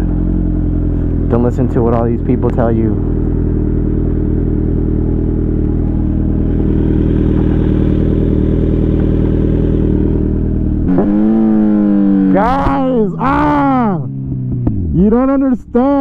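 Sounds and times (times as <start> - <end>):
motorcycle engine running loud: 0.0 - 16.0.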